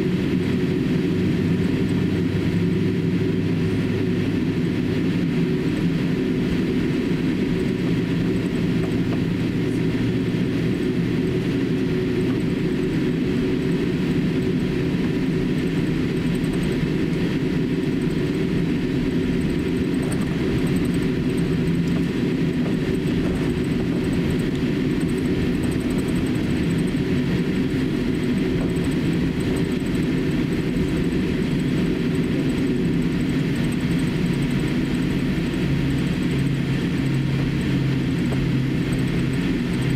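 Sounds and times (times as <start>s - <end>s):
jet engines idling rumble: 0.0s - 39.9s.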